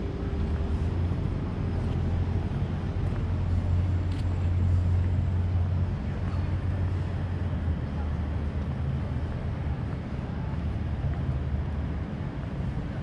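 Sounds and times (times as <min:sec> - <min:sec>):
engine droning: 0:00.0 - 0:13.0
outdoor hubbub: 0:00.0 - 0:13.0.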